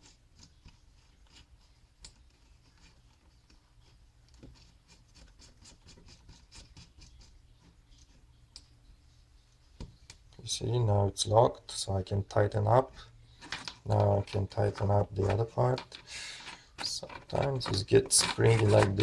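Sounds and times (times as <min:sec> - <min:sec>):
faint clicking and scratching: 0:00.0 - 0:19.0.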